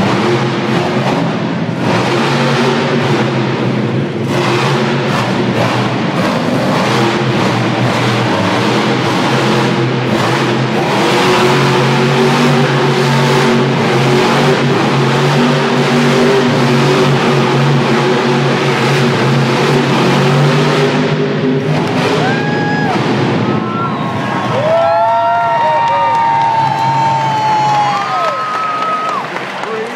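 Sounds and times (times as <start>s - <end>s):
truck engine revving: 0.0s - 29.9s.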